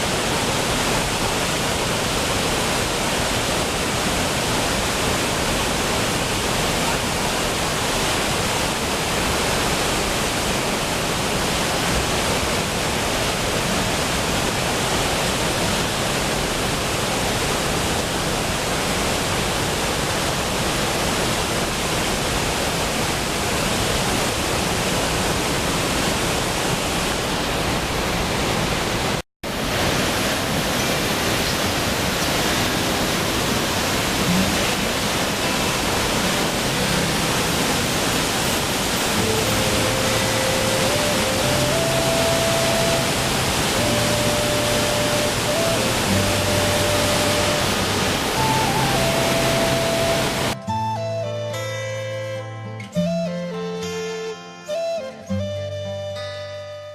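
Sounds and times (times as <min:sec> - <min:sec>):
waterfall pouring: 0:00.0 - 0:50.8.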